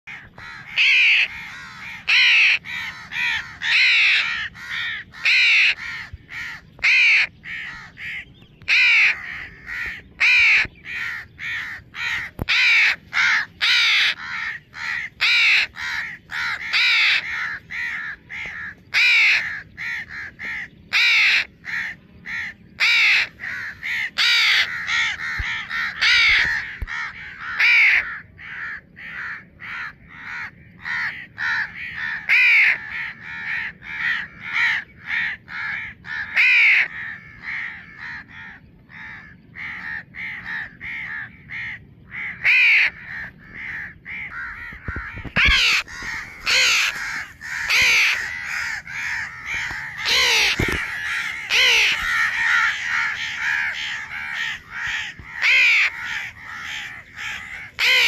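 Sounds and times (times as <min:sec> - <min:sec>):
young crow begging caws: 0:00.1 - 0:58.0.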